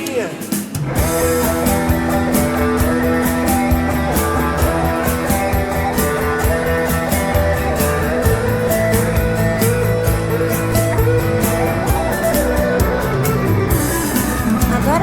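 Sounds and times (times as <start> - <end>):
rock guitar over drum beat: 0.0 - 15.0.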